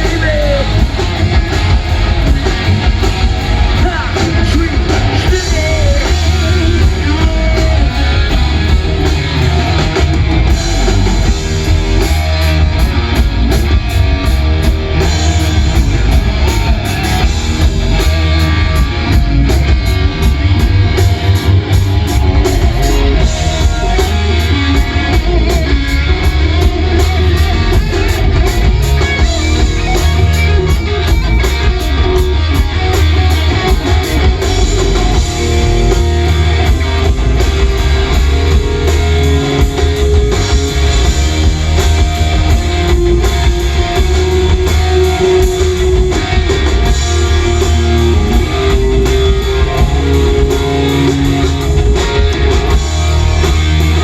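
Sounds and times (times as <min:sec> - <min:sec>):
held electric guitar notes: 0:00.0 - 0:54.0
rock band playing: 0:00.0 - 0:54.0.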